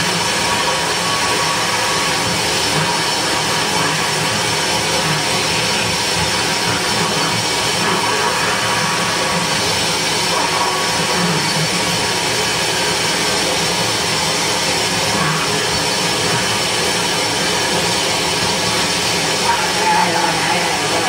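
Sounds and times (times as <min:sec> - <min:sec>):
noise music through amplifiers: 0:00.0 - 0:21.0.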